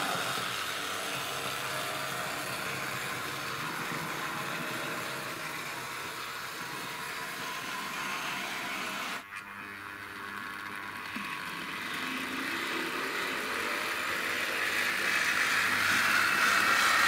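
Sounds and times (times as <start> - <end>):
wheels rolling on rails: 0.0 - 9.2, 10.8 - 17.0
model tram motor whirring: 0.0 - 17.0.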